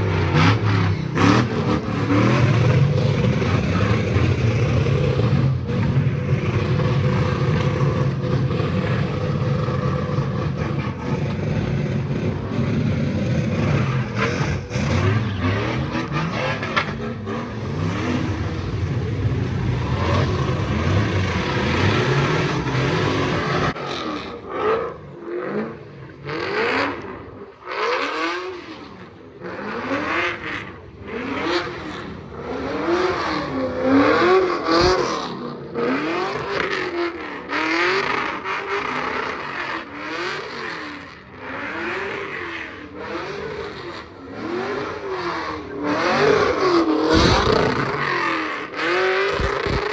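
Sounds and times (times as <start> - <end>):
car engine revving hard: 0.0 - 49.9.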